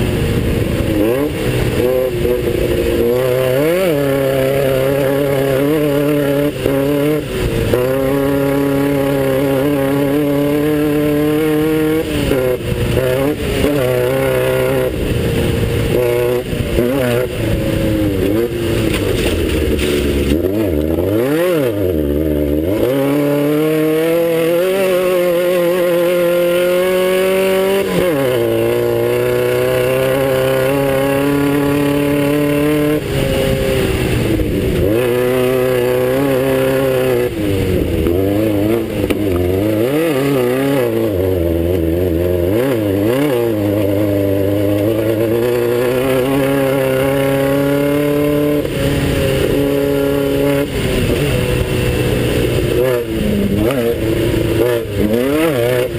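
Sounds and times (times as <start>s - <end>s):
buggy engine revving: 0.0s - 55.9s
rattle and road noise: 0.0s - 55.9s.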